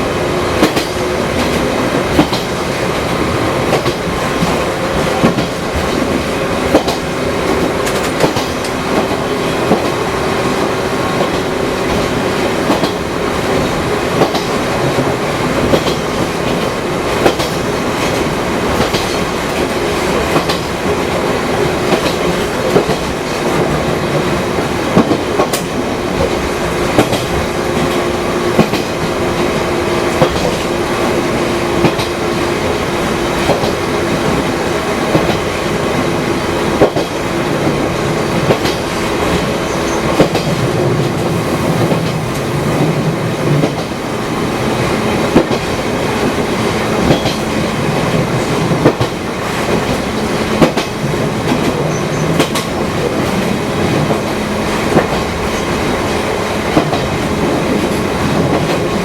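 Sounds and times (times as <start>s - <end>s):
electric railcar running: 0.0s - 59.0s
wheels clicking over rail joints: 0.6s - 10.2s, 11.1s - 30.8s, 33.4s - 36.2s, 36.8s - 44.0s, 45.3s - 59.0s.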